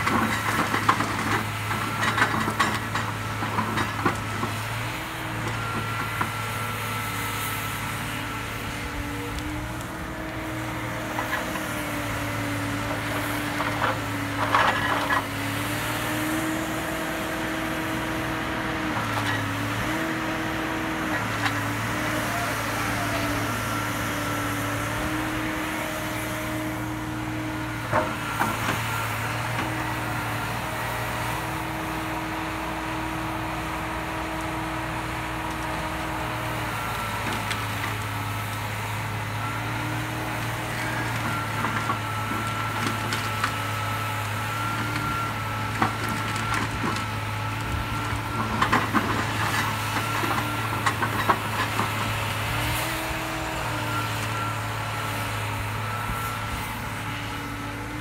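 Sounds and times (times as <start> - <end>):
excavator diesel engine drone: 0.0 - 58.0.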